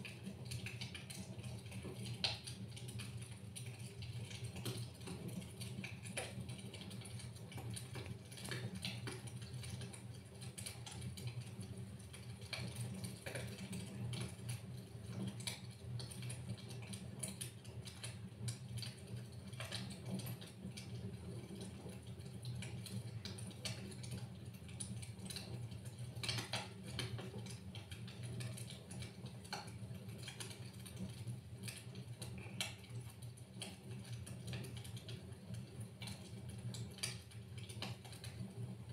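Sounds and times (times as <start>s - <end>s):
logs crackling and popping: 0.0s - 38.9s
low fire rumble: 0.0s - 38.9s.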